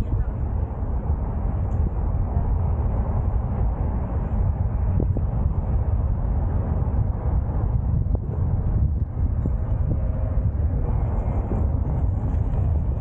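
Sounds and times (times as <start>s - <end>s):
car driving on road: 0.0s - 13.0s.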